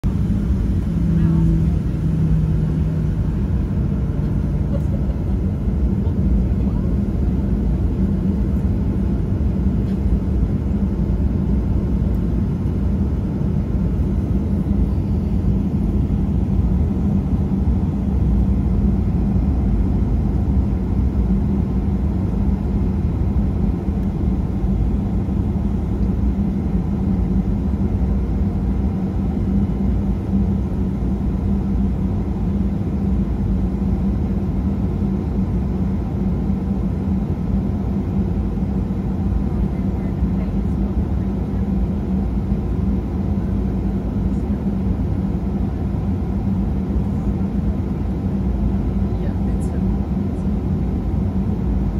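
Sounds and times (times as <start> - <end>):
airliner taxiing rumble: 0.0 - 51.9
engine hum: 0.0 - 51.9.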